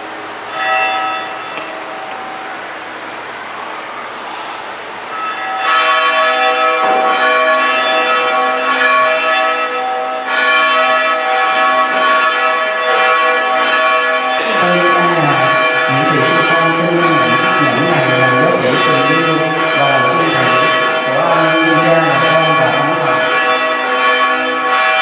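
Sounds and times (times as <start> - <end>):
bells chiming: 0.0 - 2.9, 5.1 - 25.0.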